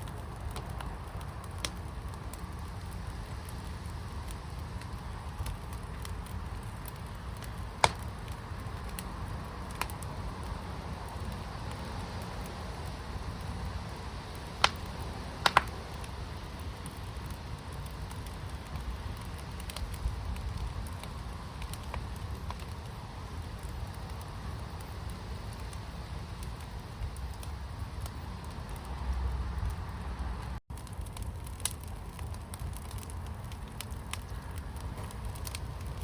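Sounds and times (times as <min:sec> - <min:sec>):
fire cracking: 0:00.0 - 0:36.0
fire pit rumbling: 0:00.0 - 0:36.0.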